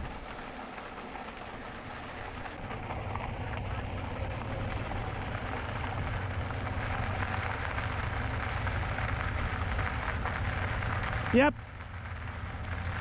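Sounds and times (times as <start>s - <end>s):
tyre and road noise: 0.0s - 13.0s.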